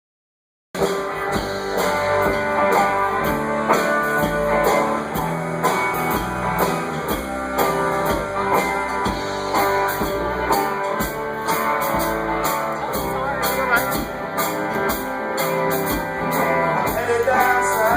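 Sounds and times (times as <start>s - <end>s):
live rock band playing: 0.8s - 17.9s.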